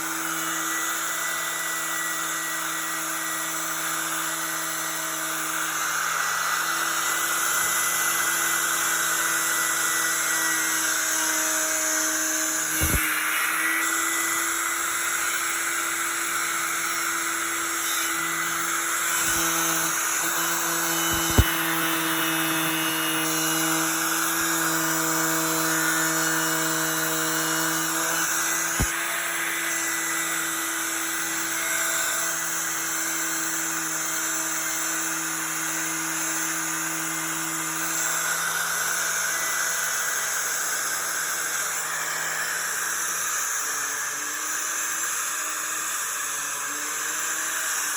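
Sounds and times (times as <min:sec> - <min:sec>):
angle grinder motor hum: 0:00.0 - 0:47.9.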